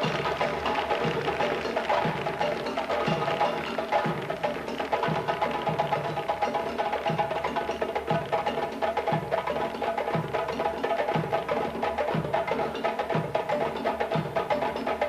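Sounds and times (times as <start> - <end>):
clicking percussion: 0.0 - 15.0.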